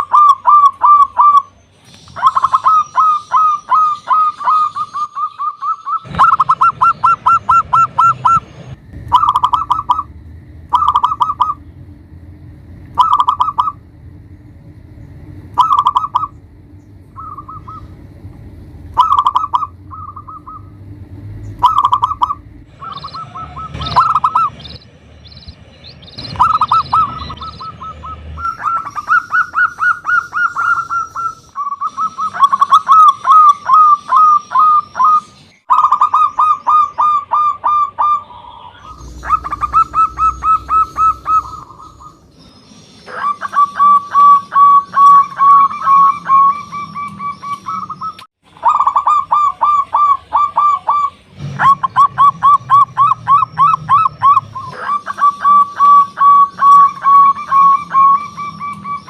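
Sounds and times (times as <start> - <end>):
dove cooing: 0.0 - 11.6, 13.0 - 13.8, 15.6 - 16.4, 17.1 - 18.0, 18.9 - 24.7, 26.2 - 42.2, 43.0 - 59.0
high bird chirps: 0.0 - 11.8, 12.9 - 13.8, 14.4 - 18.0, 18.9 - 59.0.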